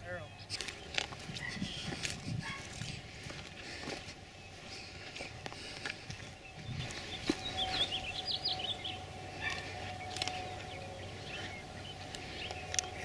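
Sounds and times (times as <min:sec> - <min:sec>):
small birds chirping: 0:00.0 - 0:13.0
faint steady hum: 0:00.2 - 0:13.0.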